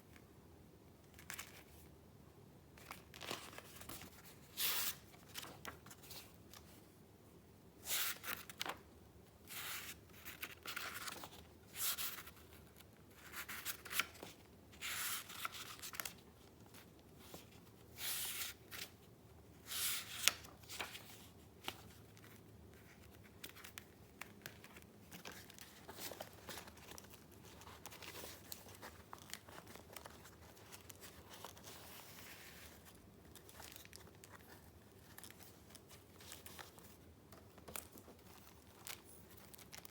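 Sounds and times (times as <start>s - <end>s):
paper rustling and crinkling: 2.8s - 6.8s, 9.5s - 19.0s, 19.6s - 39.9s.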